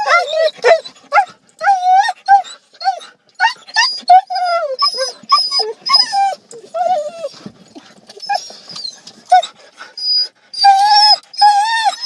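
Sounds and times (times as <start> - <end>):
dogs whining and yipping: 0.0 - 12.0.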